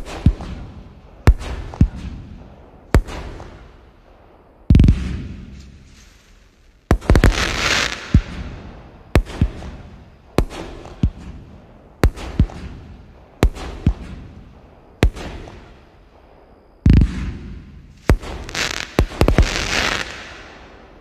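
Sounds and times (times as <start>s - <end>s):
firework deep boom: 0.0s - 5.9s, 6.9s - 19.6s
firework sharp bangs: 0.0s - 6.0s, 6.9s - 21.0s
crackling hiss: 0.0s - 21.0s.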